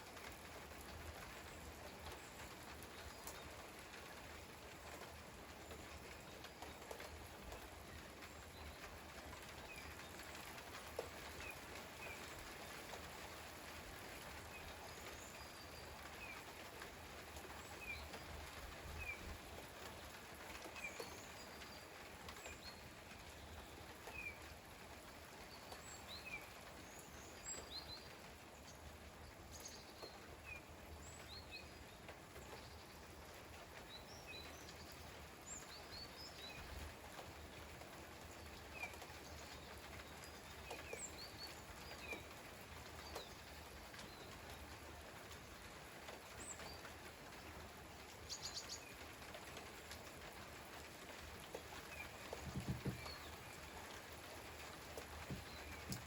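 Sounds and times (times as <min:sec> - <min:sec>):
light rain falling: 0:00.0 - 0:56.0
small birds chirping: 0:01.3 - 0:12.7, 0:13.9 - 0:56.0.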